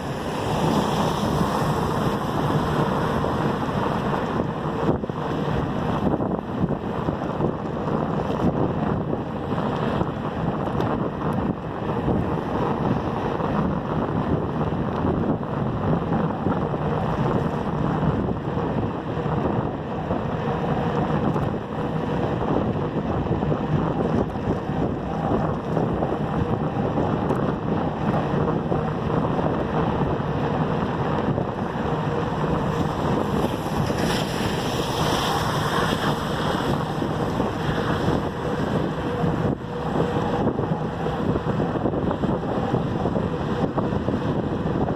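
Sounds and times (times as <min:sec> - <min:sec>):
wind rushing over microphone: 0:00.0 - 0:44.9.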